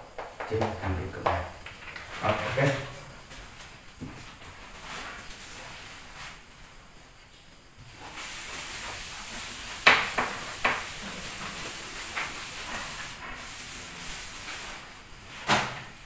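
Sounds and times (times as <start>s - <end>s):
cloth wiping chalkboard: 0.2s - 7.2s, 7.8s - 16.0s.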